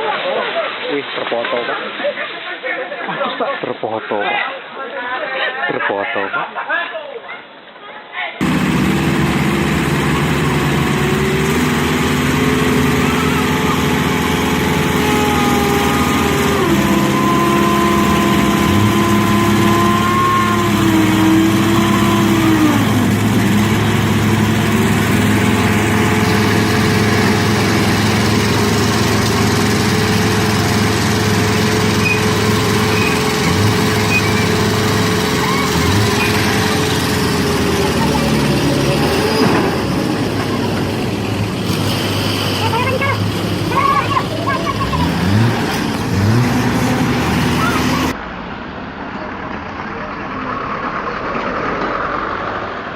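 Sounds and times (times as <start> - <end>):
vehicle engine running under load: 8.4 - 52.9.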